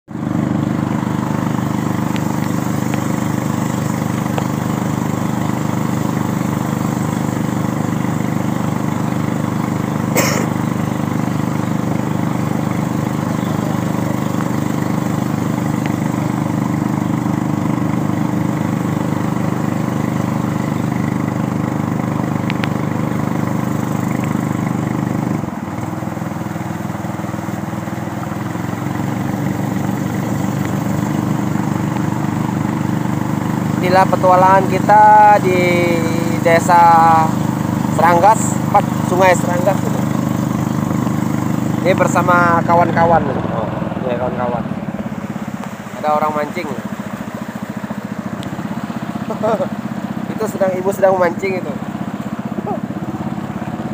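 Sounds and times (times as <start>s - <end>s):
small boat engine running: 0.1s - 53.9s.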